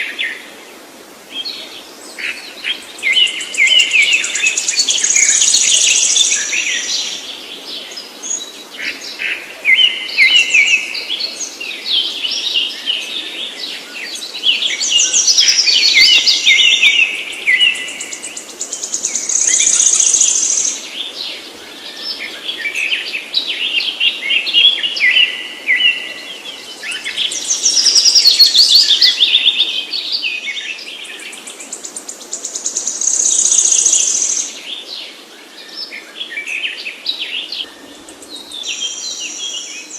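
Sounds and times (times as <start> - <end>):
birds chirping: 1.3 - 39.9.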